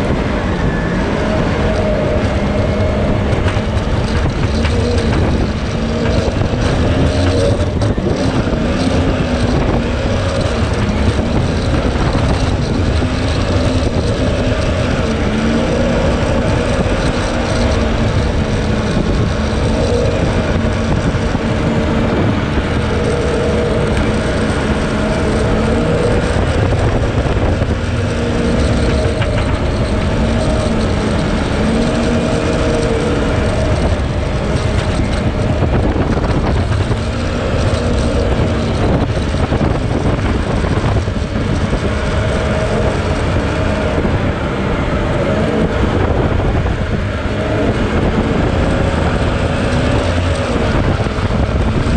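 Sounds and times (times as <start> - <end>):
boat engine drone: 0.0 - 51.9
water churning around hull: 0.0 - 51.9.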